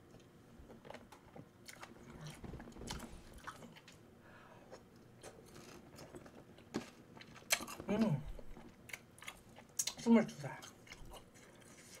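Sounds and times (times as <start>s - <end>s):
chewing chewy food: 0.1s - 4.0s, 4.7s - 12.0s.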